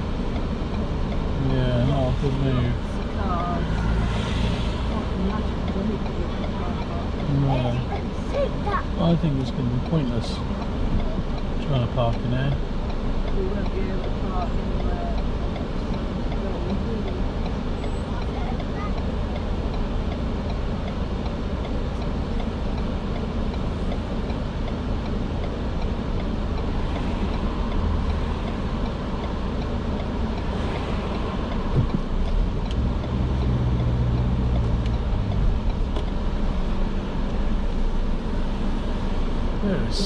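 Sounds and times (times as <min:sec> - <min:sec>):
car engine hum: 0:00.0 - 0:40.0
road noise inside car: 0:00.0 - 0:40.0.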